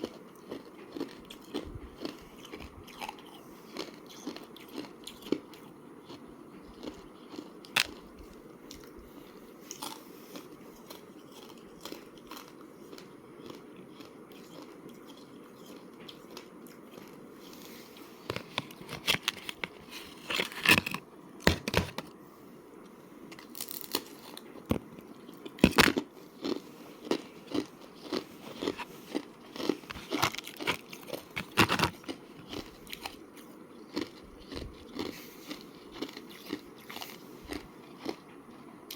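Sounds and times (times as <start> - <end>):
person chewing ice: 0.0 - 21.0, 23.3 - 38.9.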